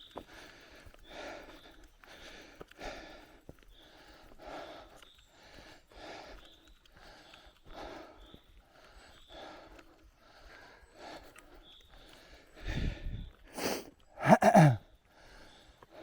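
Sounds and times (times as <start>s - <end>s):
cyclist breathing hard: 0.0s - 16.0s.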